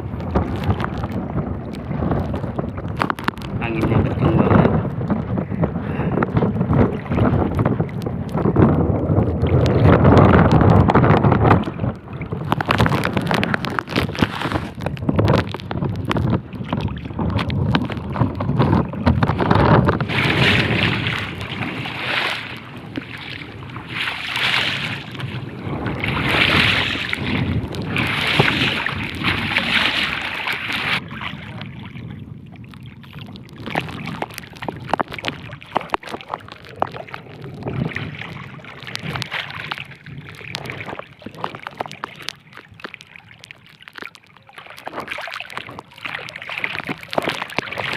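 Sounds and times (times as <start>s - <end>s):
wind buffeting microphone: 0.0s - 44.2s, 44.8s - 47.9s
water splashing: 0.0s - 47.9s.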